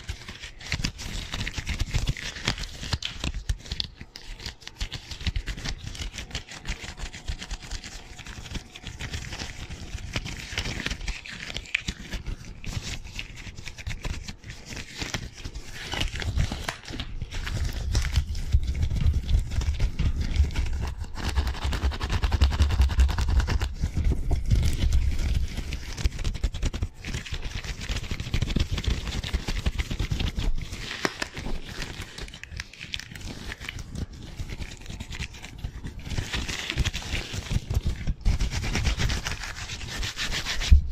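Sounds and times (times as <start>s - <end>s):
rubber gloves rubbing and crinkling: 0.0s - 40.9s.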